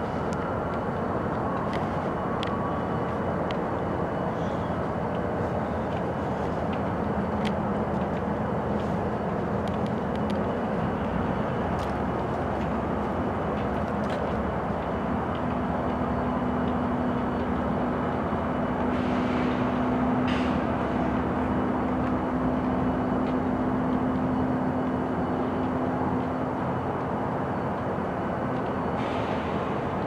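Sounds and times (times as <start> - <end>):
locomotive engine rumbling: 0.0 - 30.0
sharp clicks from train: 4.8 - 30.0.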